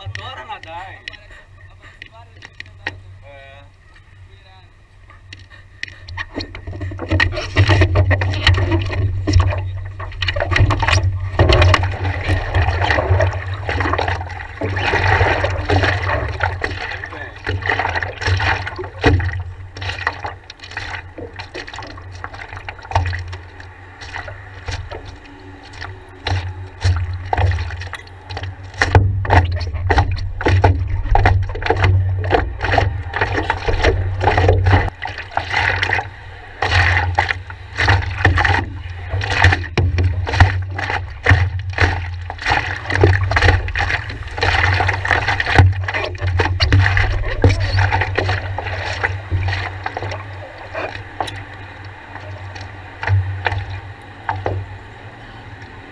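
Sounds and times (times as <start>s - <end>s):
water splashing against paddleboard: 5.1s - 55.9s
low rumble: 6.3s - 55.9s.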